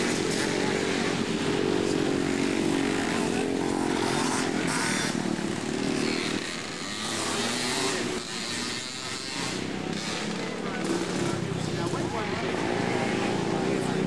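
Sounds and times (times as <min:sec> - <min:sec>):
racing engines buzzing: 0:00.0 - 0:14.0.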